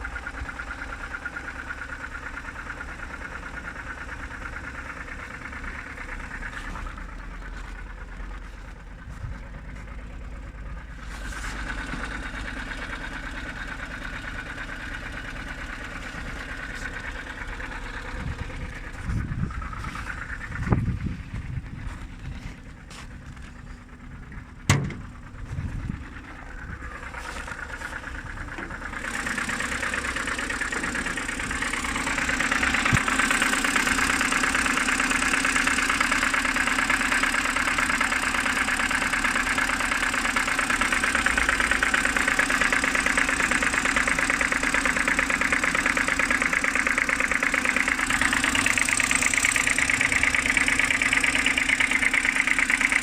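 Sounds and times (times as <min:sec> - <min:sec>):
car engine idling: 0:00.0 - 0:53.0
rapid steady engine knocking: 0:00.0 - 0:53.0.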